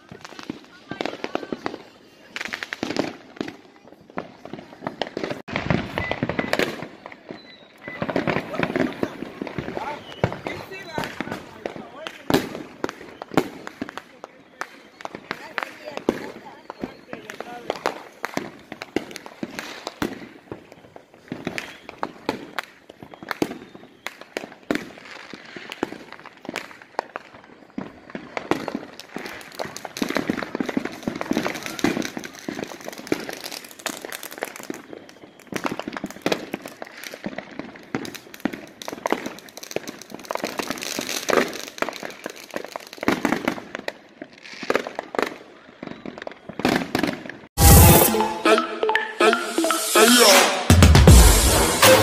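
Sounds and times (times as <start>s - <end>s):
firecrackers popping and crackling: 0.0s - 48.3s.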